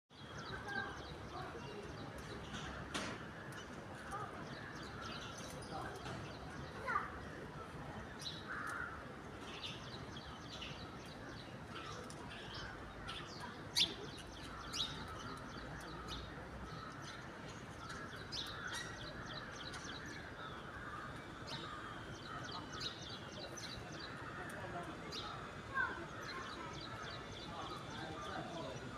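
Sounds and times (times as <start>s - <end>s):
faint outdoor background noise: 0.1s - 28.9s
small birds chirping: 0.1s - 28.9s.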